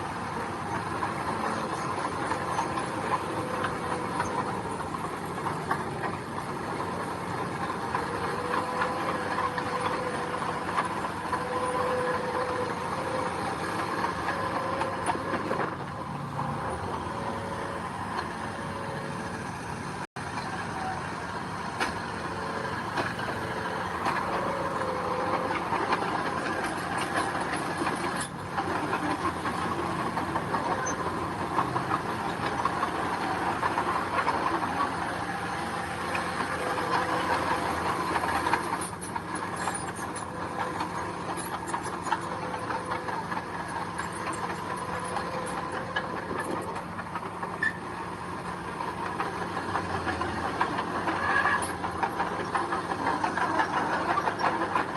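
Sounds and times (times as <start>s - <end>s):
heavy machinery diesel engine: 0.0s - 54.9s.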